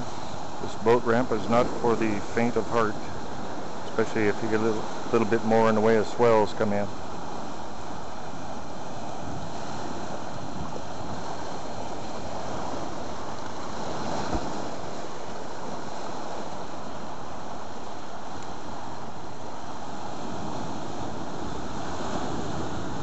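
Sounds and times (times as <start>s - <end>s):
ocean surf washing over rocks: 0.0s - 23.0s.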